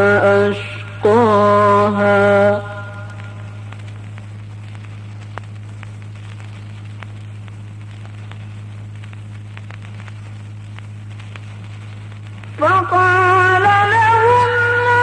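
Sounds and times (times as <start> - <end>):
crackles and clicks: 0.0 - 15.0
low electrical hum: 0.0 - 15.0.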